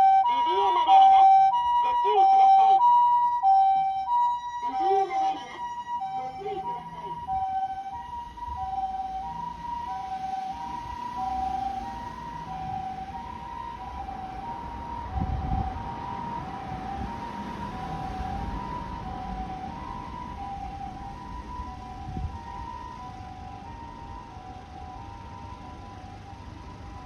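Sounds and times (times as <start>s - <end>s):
low vehicle rumble: 0.0s - 27.0s
two-tone ambulance siren: 0.0s - 27.0s.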